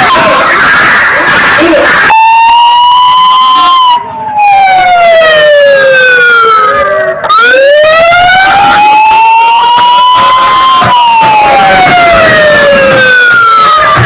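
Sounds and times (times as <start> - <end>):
siren wailing: 1.3 - 14.0.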